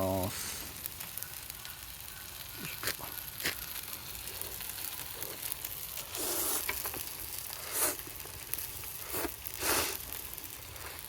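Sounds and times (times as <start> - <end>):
noodles sizzling in a pan: 0.0 - 11.0.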